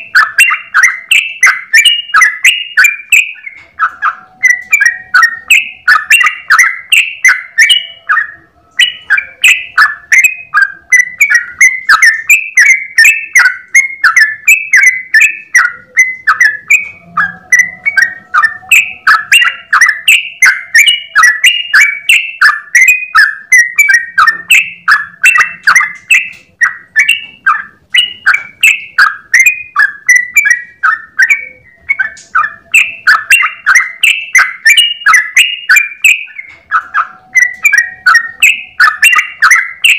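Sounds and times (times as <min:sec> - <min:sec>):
bulbul singing rapid chirps: 0:00.0 - 0:39.9.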